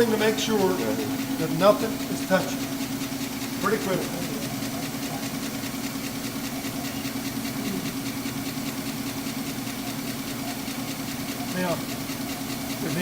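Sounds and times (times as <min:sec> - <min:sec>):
grinding machine humming: 0:00.0 - 0:13.0.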